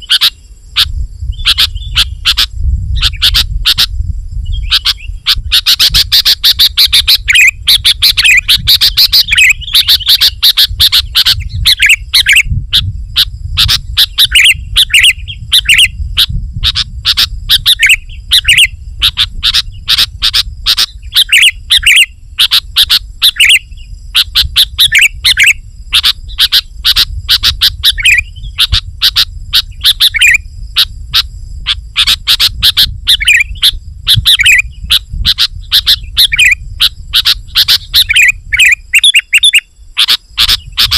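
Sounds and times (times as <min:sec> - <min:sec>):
bird chirping and whistling: 0:00.0 - 0:40.9.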